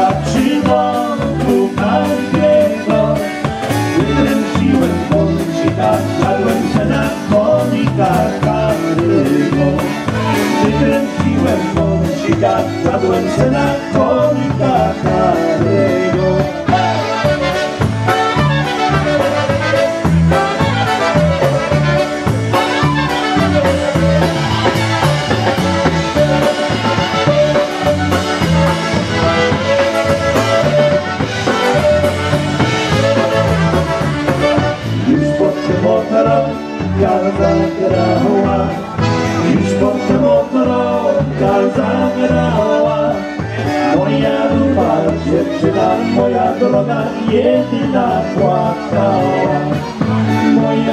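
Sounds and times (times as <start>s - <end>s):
polka band playing: 0.0s - 50.9s.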